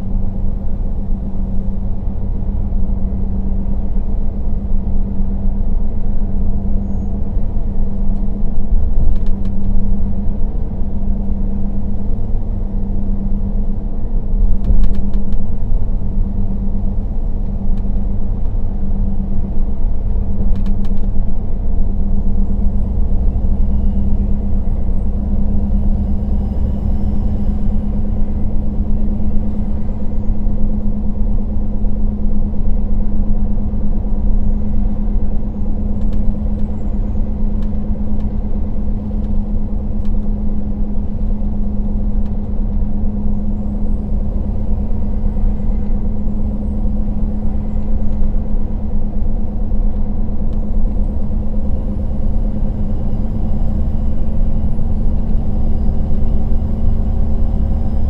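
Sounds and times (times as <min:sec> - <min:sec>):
bus engine drone from cabin: 0:00.0 - 0:58.0.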